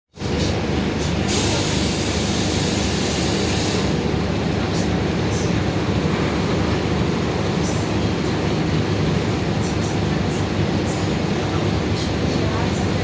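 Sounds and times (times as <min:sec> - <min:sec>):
bus driveline drone: 0:00.2 - 0:13.0.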